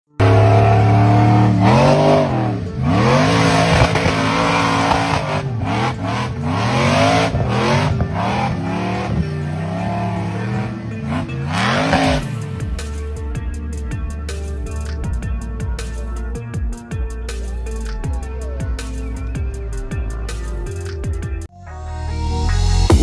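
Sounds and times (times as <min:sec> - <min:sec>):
vehicle engine revving: 0:00.1 - 0:21.5.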